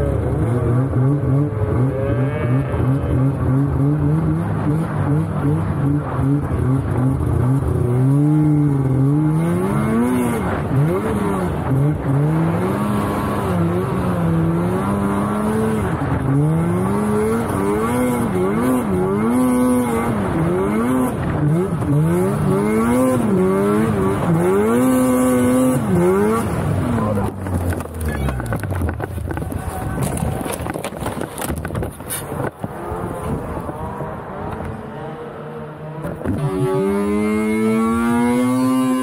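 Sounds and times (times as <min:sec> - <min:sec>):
snowmobile engine revving: 0:00.0 - 0:30.8, 0:32.1 - 0:39.0.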